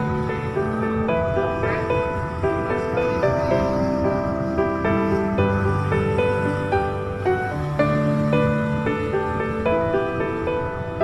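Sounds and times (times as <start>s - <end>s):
slow melody of held notes: 0.0s - 11.0s.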